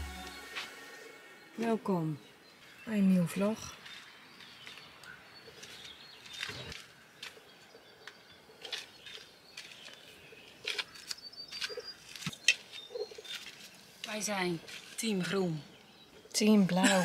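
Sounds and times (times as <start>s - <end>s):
faint bird chirps: 0.3s - 16.8s.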